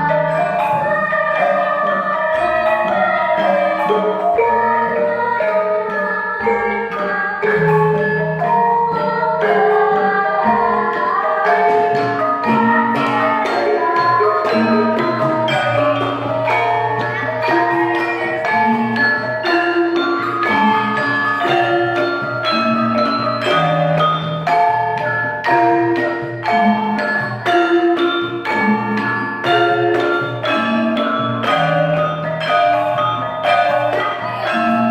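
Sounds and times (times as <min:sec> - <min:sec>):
gamelan chimes playing melody: 0:00.0 - 0:34.9
hand drumming: 0:00.0 - 0:34.9.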